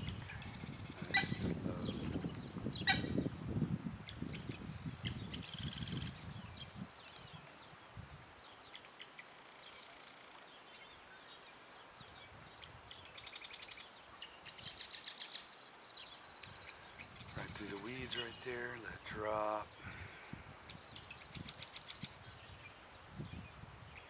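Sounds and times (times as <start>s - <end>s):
birds calling in buzzy trills: 4.1s - 24.0s.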